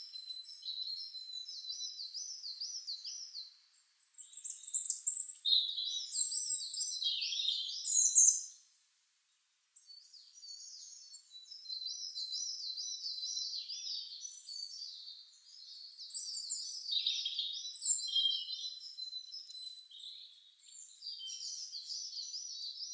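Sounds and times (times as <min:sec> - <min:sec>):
songbirds chirping and trilling: 0:00.0 - 0:22.9.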